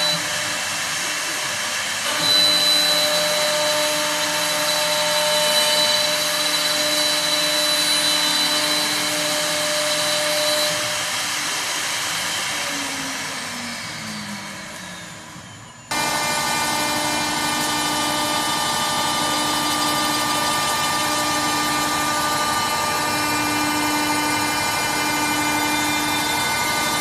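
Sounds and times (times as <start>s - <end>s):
cutters shaving wood: 0.0s - 27.0s
motor whine: 0.0s - 27.0s.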